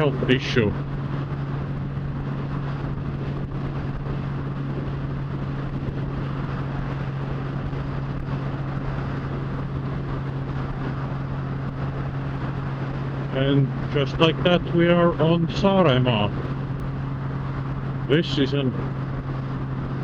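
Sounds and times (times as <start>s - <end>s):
motorcycle engine cruising: 0.0s - 20.0s
wind noise on microphone: 0.0s - 20.0s.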